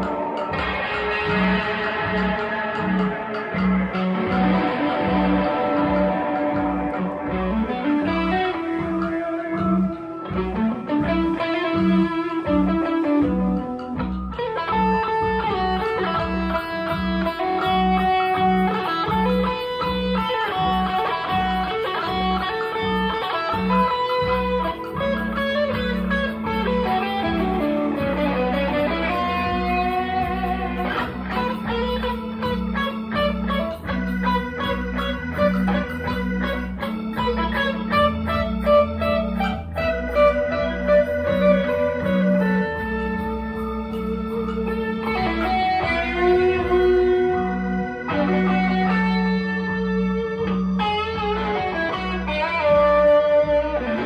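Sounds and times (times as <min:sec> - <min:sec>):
bass guitar: 0:00.0 - 0:54.0
drums keeping a steady beat: 0:00.0 - 0:54.0
electric guitar lead line: 0:00.0 - 0:54.0.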